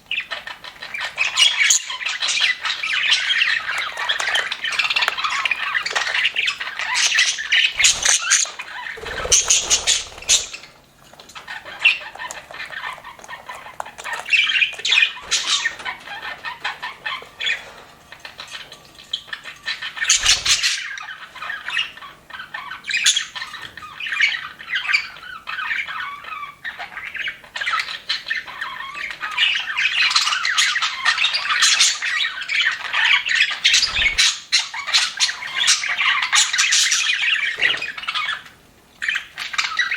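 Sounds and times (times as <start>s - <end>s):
budgerigars chattering: 0.1s - 10.8s, 11.4s - 39.9s.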